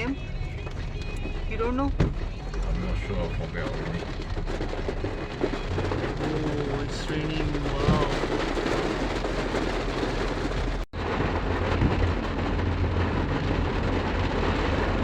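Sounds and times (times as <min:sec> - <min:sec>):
car and road rumble: 0:00.0 - 0:15.0
heavy rain on a car: 0:00.0 - 0:15.0.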